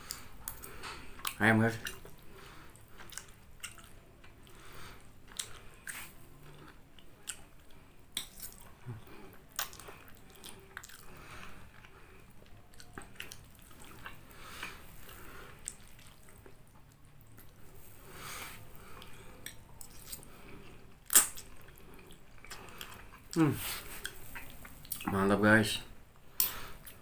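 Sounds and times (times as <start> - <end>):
person chewing and slurping: 0.0 - 25.1.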